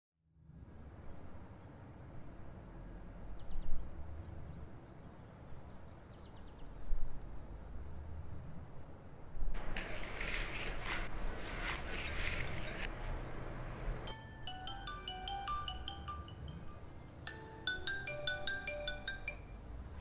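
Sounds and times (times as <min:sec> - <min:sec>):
crickets chirping: 0:00.4 - 0:20.0
steady high hiss: 0:02.7 - 0:20.0.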